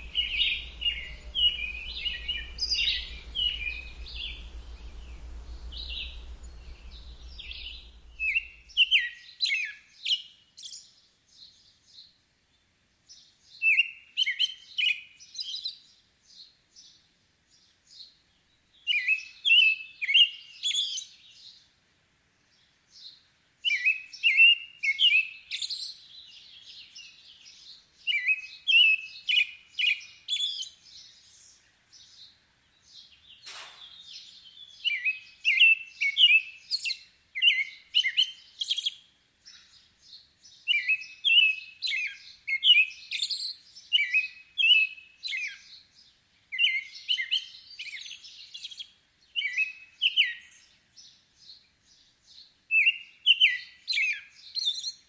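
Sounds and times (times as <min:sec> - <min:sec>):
bird chirping song: 0:00.0 - 0:21.8, 0:22.4 - 0:55.0.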